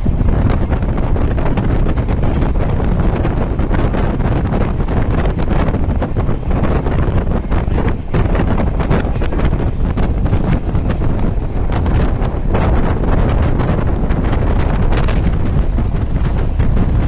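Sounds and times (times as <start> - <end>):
train rumble: 0.0 - 17.0
wind buffeting microphone: 0.0 - 17.0
rattles and clatter: 0.1 - 17.0.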